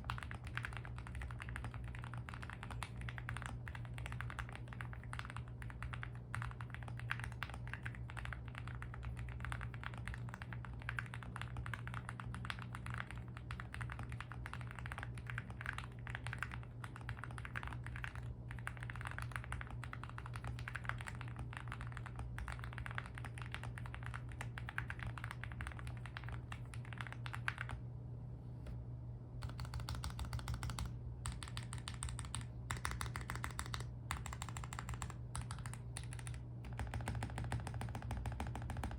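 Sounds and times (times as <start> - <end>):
mechanical keyboard typing: 0.0 - 27.8, 29.4 - 38.9.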